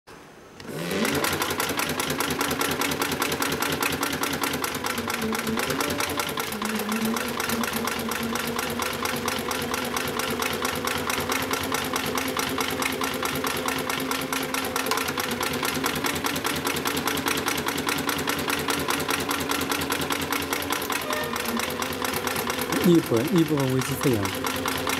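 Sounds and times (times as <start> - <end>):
sewing machine motor hum: 0.6 - 24.9.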